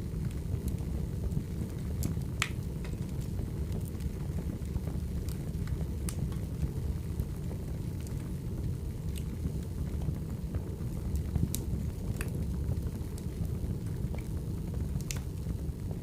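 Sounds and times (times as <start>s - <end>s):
firewood crackling and popping: 0.0s - 16.0s
low fire rumble: 0.0s - 16.0s.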